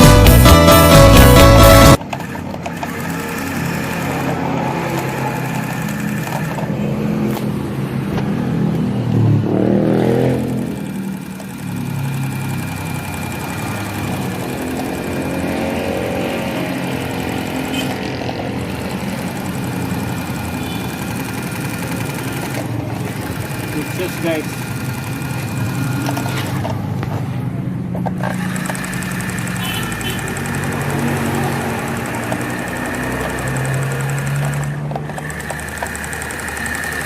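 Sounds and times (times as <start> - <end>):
sewing machine motor running: 0.0 - 7.3, 10.2 - 26.8, 28.1 - 37.0.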